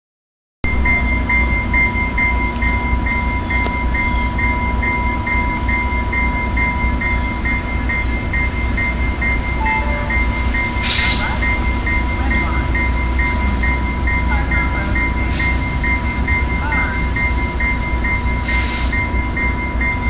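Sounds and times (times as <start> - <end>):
diesel train idling rumble: 0.6 - 20.0
steady high whine: 0.6 - 20.0
bell ringing: 0.7 - 20.0.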